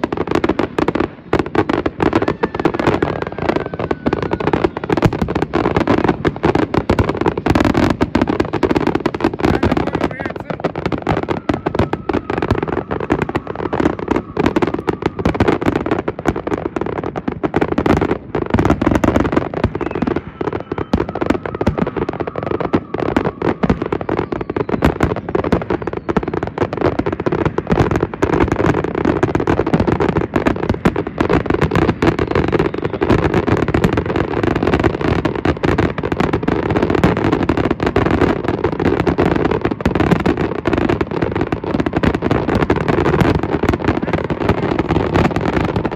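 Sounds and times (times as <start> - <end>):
fireworks bursting with crackle: 0.0 - 45.9.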